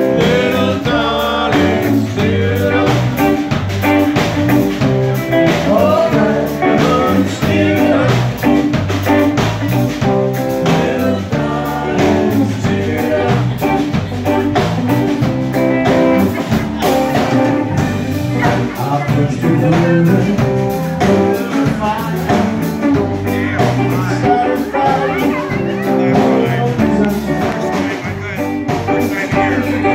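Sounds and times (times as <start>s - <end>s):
drum kit beat: 0.0s - 29.9s
electric guitars: 0.0s - 29.9s.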